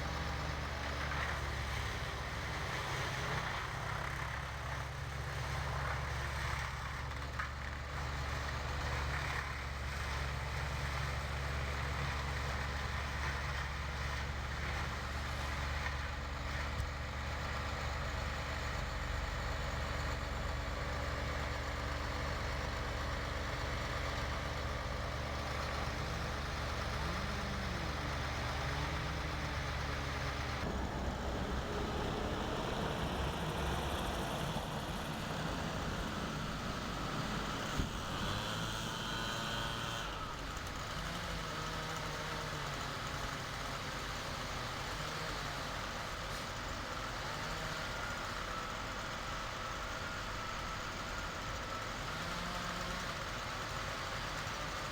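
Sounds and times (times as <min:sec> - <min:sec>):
large engine droning: 0:00.0 - 0:54.8.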